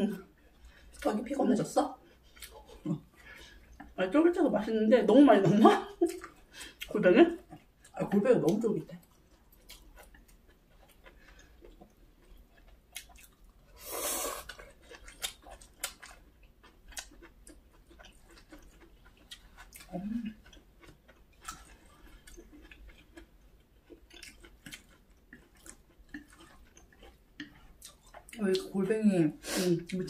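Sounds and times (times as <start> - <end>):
wet chewing: 2.0 - 4.0, 5.9 - 28.7.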